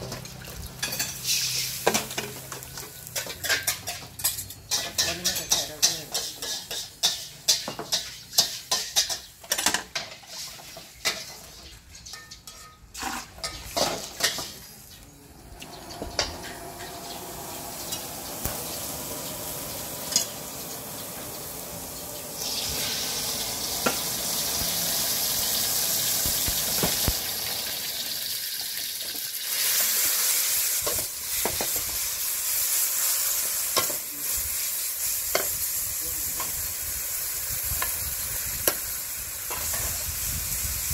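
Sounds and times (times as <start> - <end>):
metal utensils scraping a wok: 0.0 - 15.0, 16.1 - 21.2, 22.4 - 40.2
frying sizzle: 0.0 - 40.9.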